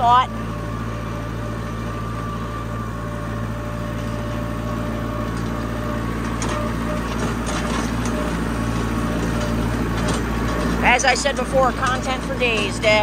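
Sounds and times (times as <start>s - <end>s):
machinery rattling and clicks: 0.0s - 13.0s
tractor engine running: 0.0s - 13.0s.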